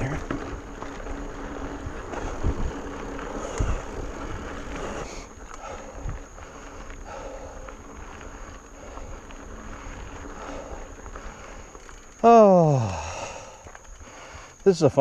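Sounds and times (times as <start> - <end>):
bike rattling: 0.0 - 15.0
bike tyres on dirt and rock: 0.0 - 15.0.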